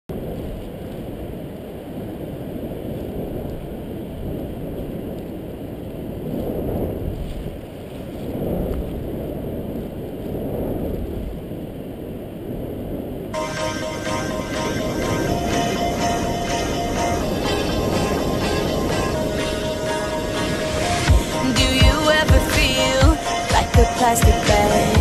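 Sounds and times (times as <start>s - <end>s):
wind rushing over microphone: 0.1s - 25.0s.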